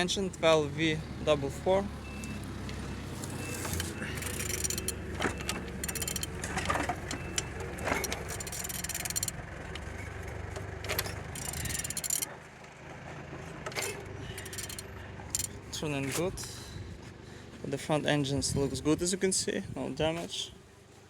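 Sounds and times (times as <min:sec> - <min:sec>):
engine clicks and knocks: 0:00.0 - 0:17.6.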